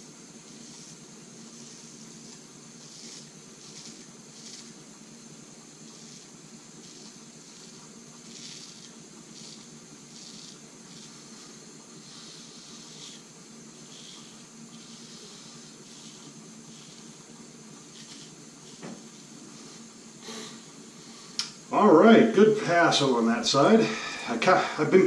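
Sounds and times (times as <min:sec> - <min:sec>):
steady low hum: 0:00.0 - 0:25.0
razor scraping stubble: 0:00.3 - 0:21.5.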